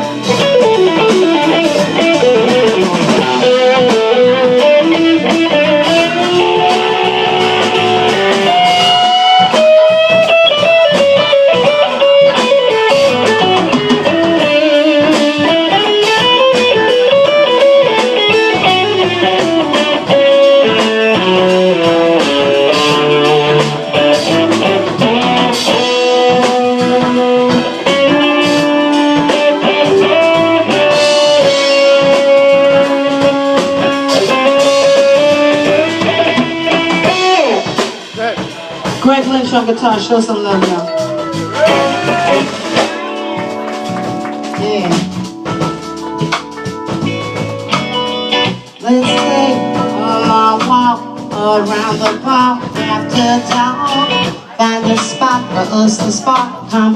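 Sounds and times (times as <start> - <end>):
band accompaniment: 0.0 - 56.9
bluesy electric guitar solo: 0.0 - 56.9.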